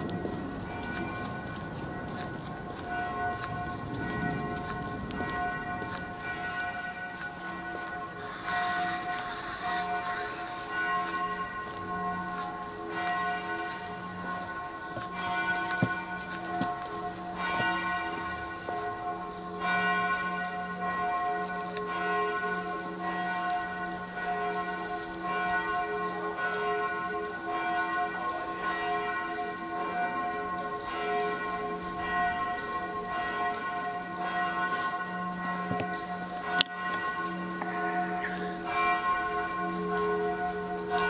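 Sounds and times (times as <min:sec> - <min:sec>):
church bells pealing: 0:00.0 - 0:41.0.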